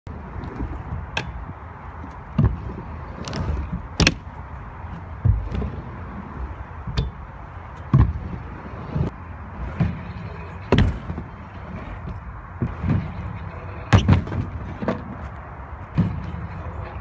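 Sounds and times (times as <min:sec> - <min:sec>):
scooter wheels rumbling: 0:00.1 - 0:17.0.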